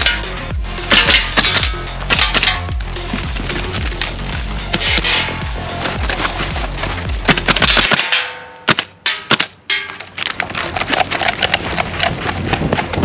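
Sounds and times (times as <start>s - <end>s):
pellets smacking into wood: 0.0s - 12.0s.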